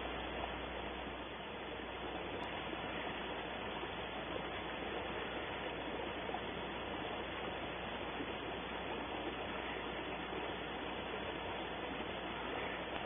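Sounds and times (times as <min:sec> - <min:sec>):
low hum: 0:00.0 - 0:13.0
microphone hiss: 0:00.0 - 0:13.0.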